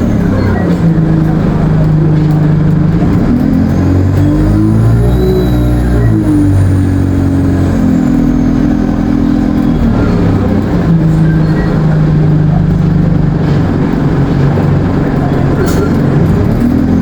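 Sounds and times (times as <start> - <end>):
bus diesel engine pulling: 0.0 - 17.0.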